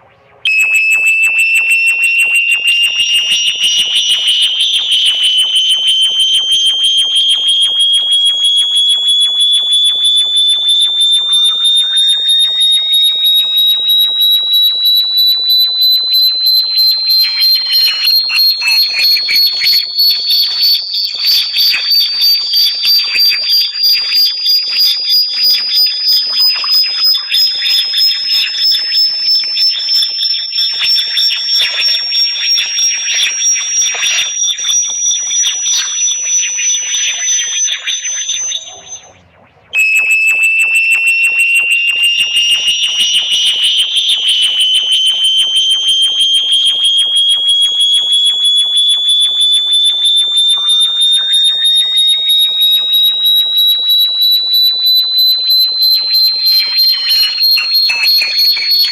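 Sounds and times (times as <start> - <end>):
pulsing high-pitched electronic tone: 0.0 - 58.9.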